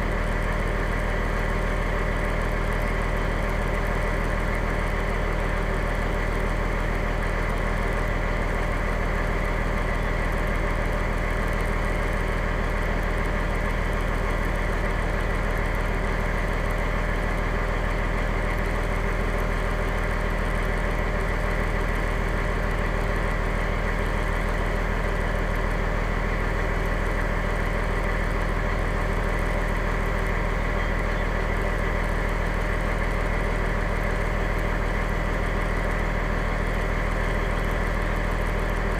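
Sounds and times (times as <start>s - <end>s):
fire engine running steadily: 0.0s - 38.9s.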